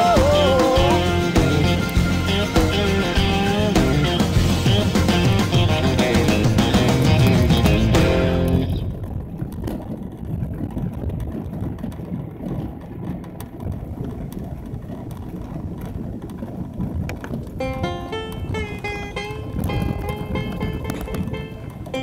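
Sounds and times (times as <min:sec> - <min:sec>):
pickup engine and tyre noise: 0:00.0 - 0:22.0.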